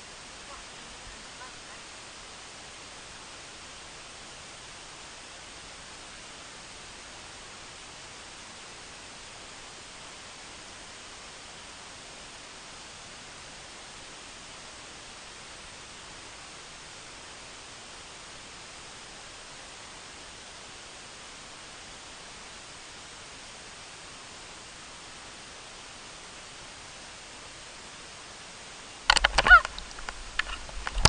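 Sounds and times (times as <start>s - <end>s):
static hiss: 0.0s - 31.0s.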